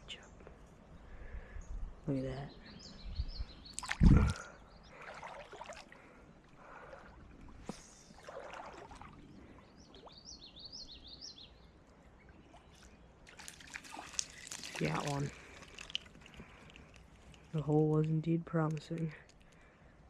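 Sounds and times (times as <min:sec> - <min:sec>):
soft water noises: 0:00.0 - 0:20.0.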